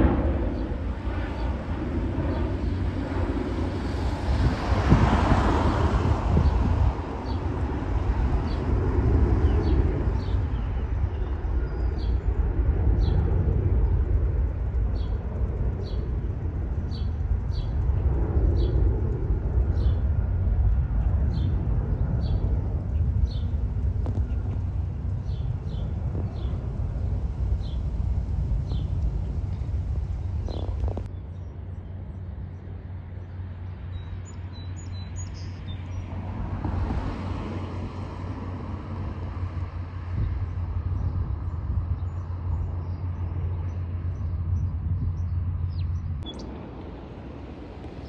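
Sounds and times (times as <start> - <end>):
jet airliner engine rumble: 0.0 - 48.0.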